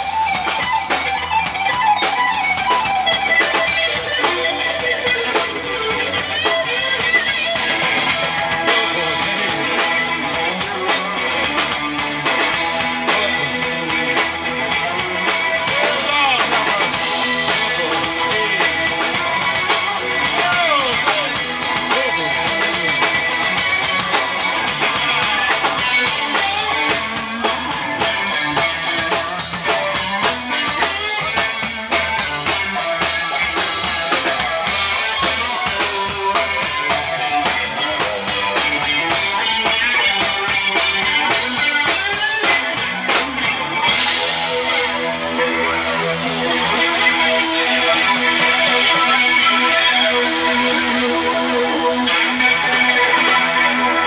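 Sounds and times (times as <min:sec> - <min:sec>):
drum kit: 0:00.0 - 0:54.0
electric bass: 0:00.0 - 0:54.0
electric guitar lead: 0:00.0 - 0:54.0.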